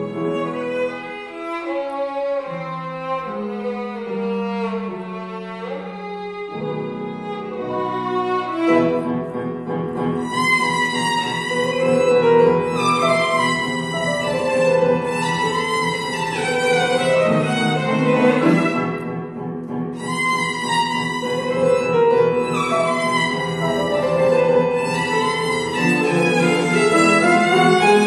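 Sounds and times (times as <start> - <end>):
piano accompaniment: 0.0 - 28.0
violin melody with vibrato: 0.0 - 28.0.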